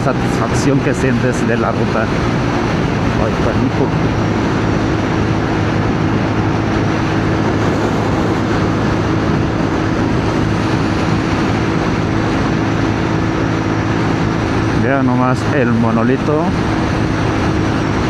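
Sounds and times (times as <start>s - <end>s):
motorcycle engine cruising: 0.0s - 18.0s
wind noise: 0.0s - 18.0s.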